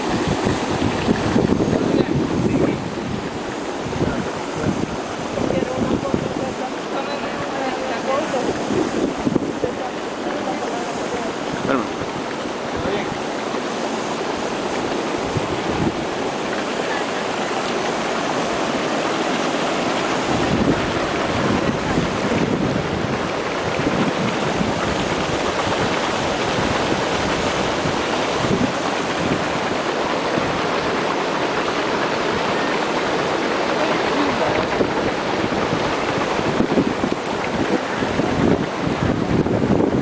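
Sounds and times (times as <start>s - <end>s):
steam hissing from vents: 0.0s - 40.0s
wind buffeting microphone: 0.0s - 40.0s.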